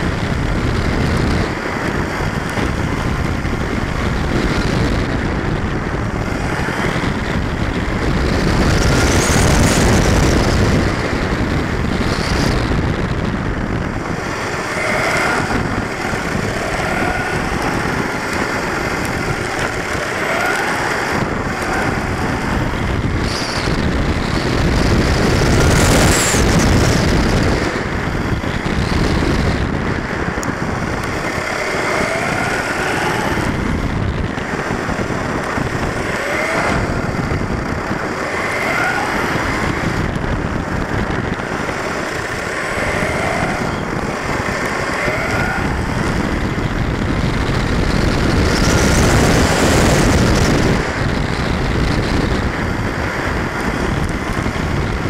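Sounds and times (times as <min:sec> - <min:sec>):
rc truck motor whine: 0:00.0 - 0:55.0
wind and tyre noise: 0:00.0 - 0:55.0.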